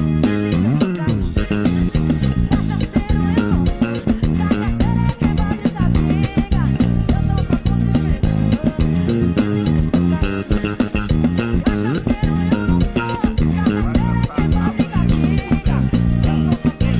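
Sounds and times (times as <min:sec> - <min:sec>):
electric bass: 0:00.0 - 0:16.9
live band music: 0:00.0 - 0:16.9.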